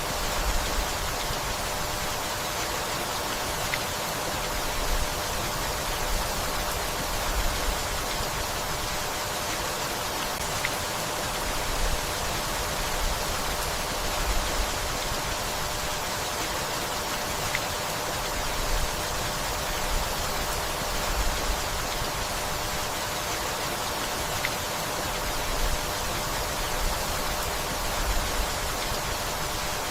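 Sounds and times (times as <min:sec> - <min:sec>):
steady rainfall: 0:00.0 - 0:29.9.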